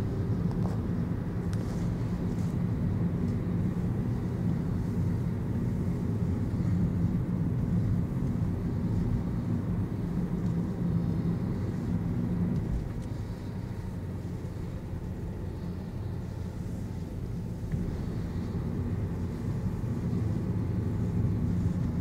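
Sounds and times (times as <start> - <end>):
car engine and tyre drone: 0.0 - 22.0.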